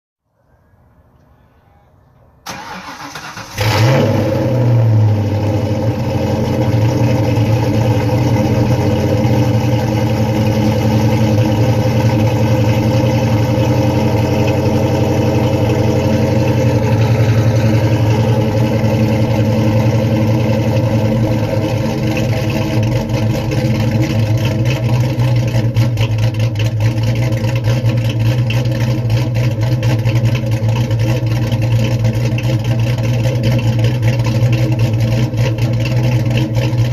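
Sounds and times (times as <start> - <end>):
car engine fast idle: 2.5 - 36.9.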